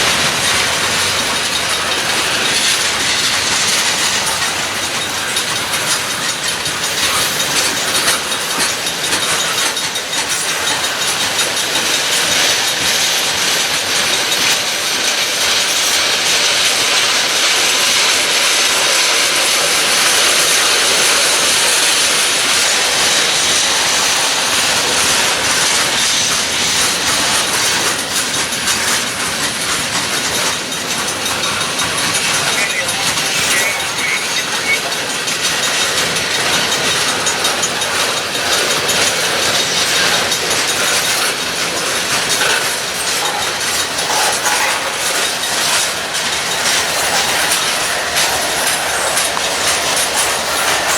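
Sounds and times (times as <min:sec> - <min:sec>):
train wheels rumbling on rail: 0:00.0 - 0:50.9
wheels clicking over rail joints: 0:00.0 - 0:50.9.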